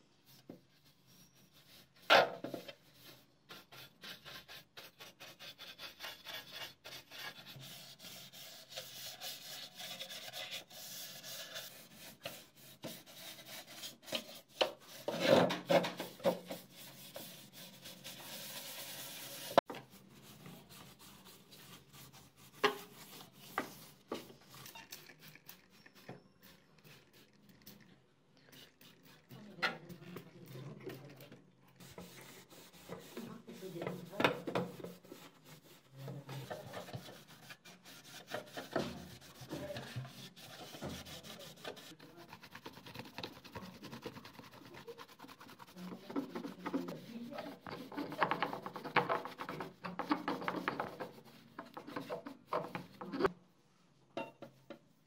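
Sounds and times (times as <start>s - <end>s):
brush scrubbing plastic: 0.3s - 53.3s.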